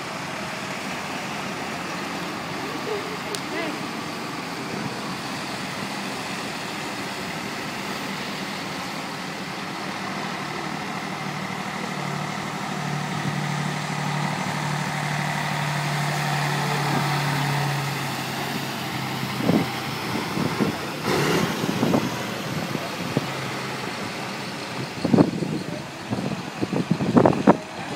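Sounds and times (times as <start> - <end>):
truck engines running: 0.0 - 27.9.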